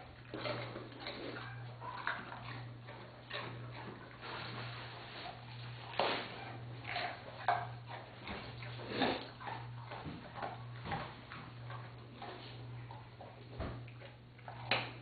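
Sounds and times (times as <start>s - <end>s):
dog crunching carrot: 0.0s - 15.0s
steady low hum: 0.0s - 15.0s.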